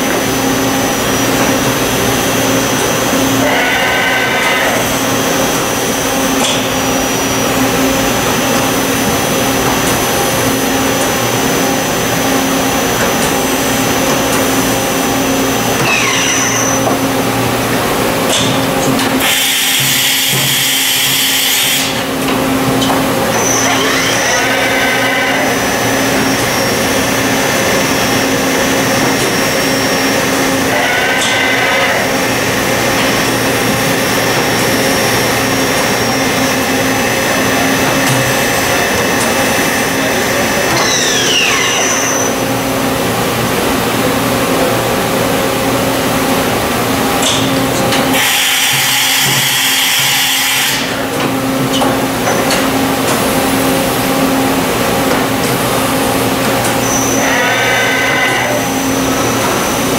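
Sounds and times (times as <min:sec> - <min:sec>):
high machine whine: 0:00.0 - 0:59.9
machine mechanical hum and hiss: 0:00.0 - 0:59.9.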